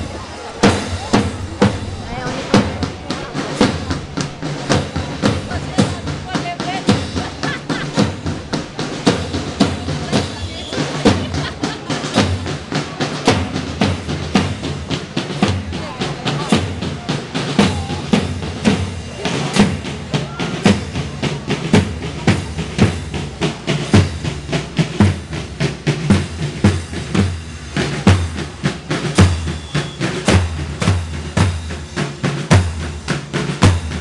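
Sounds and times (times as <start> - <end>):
bass drum strokes: 0.0 - 34.0
snare drum strokes and rolls: 0.0 - 34.0.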